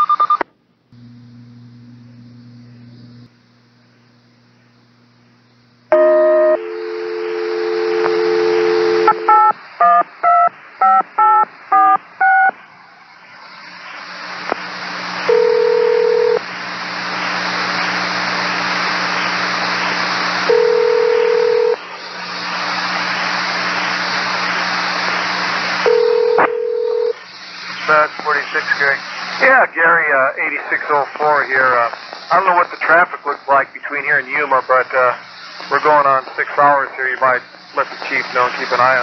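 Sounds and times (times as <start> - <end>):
radio static hiss: 2.0 - 39.0.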